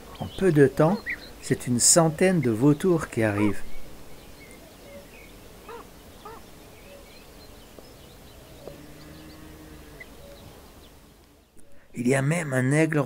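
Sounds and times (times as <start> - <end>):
arched bird calls: 0.0 - 12.5.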